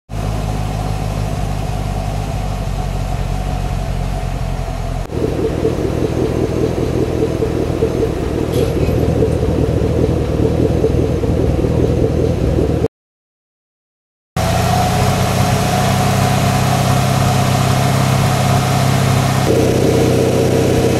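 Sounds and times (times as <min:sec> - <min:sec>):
car engine idling through exhaust: 0:00.1 - 0:12.9, 0:14.4 - 0:20.9.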